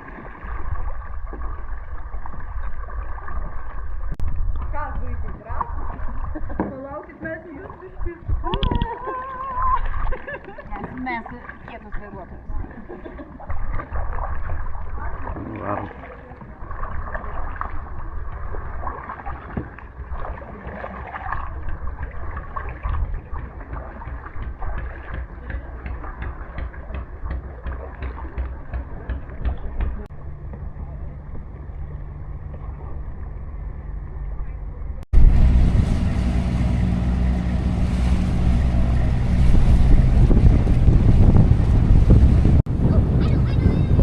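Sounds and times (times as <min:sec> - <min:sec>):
boat motor running: 0:00.0 - 0:44.0
water sloshing and lapping: 0:00.0 - 0:44.0
wind rumbling on microphone: 0:00.0 - 0:44.0.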